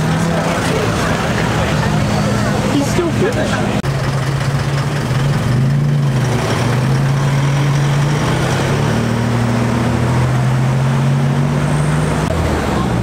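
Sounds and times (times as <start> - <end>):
car engines in slow traffic: 0.0 - 13.0.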